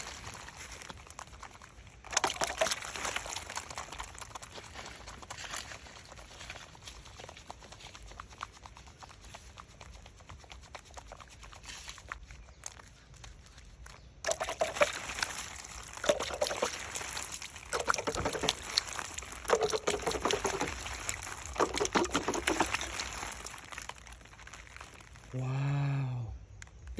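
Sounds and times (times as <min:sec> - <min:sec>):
liquid pouring and sloshing: 0:00.0 - 0:12.2, 0:14.2 - 0:25.3.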